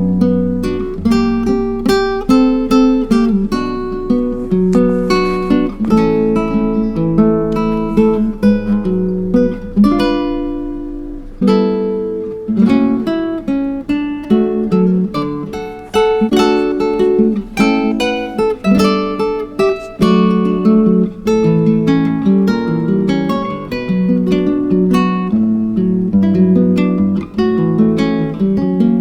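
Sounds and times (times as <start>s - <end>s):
acoustic guitar picking and strumming: 0.0s - 29.0s.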